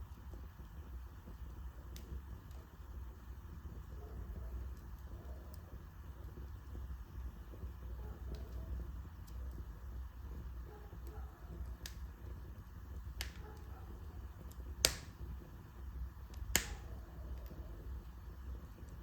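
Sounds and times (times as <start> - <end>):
fire popping: 0.0 - 19.0
wood fire crackling: 0.0 - 19.0.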